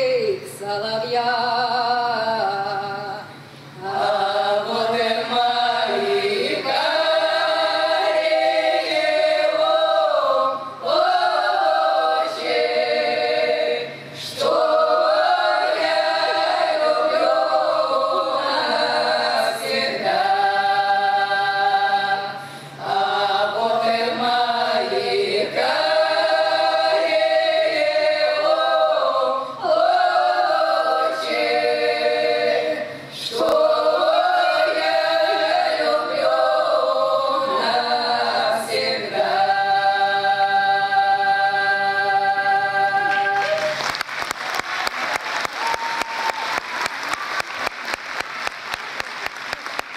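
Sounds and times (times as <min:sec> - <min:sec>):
women singing a cappella: 0:00.0 - 0:43.7.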